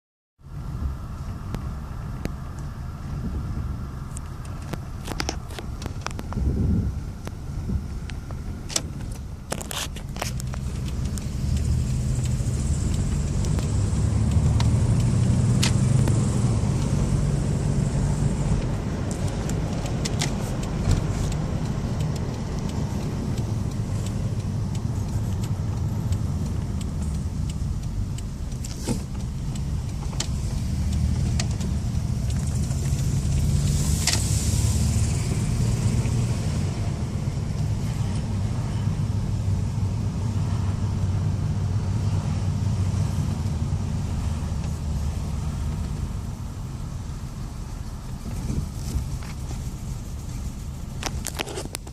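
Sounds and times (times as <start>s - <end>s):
car engine rumbling: 0.4s - 51.9s
road noise: 0.4s - 51.9s.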